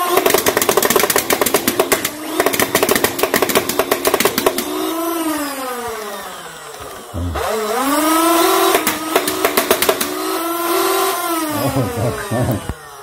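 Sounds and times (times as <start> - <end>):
toy blaster firing rapid burst: 0.0 - 13.0.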